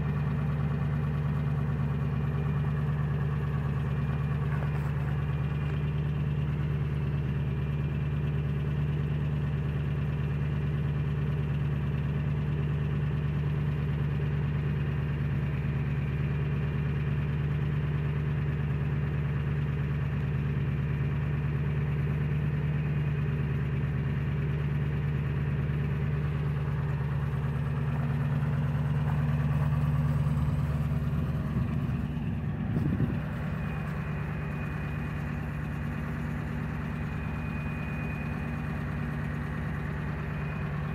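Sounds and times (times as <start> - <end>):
diesel engine idling: 0.0 - 40.9
engine knock: 0.0 - 40.9.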